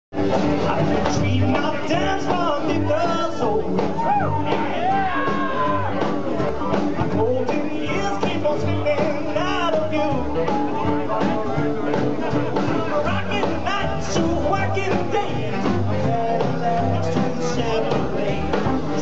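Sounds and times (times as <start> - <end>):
rock band playing: 0.1 - 19.0
man singing: 0.3 - 19.0.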